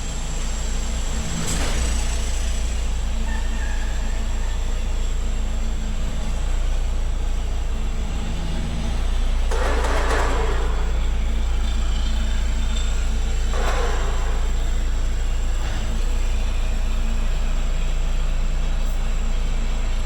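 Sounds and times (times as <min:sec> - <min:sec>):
truck engine rumbling: 0:00.0 - 0:20.0.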